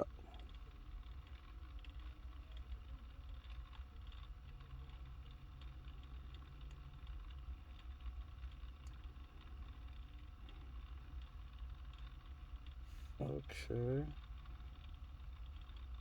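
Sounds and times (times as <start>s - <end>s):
faint clicks: 0.0s - 16.0s
low rumble inside car cabin: 0.0s - 16.0s.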